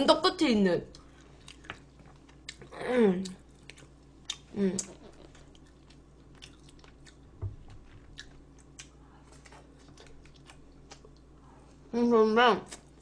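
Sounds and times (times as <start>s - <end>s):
person chewing food: 0.9s - 11.4s.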